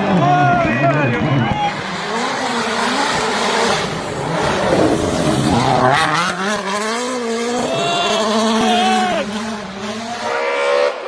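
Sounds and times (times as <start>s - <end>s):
rally car passing at speed: 0.1s - 11.0s.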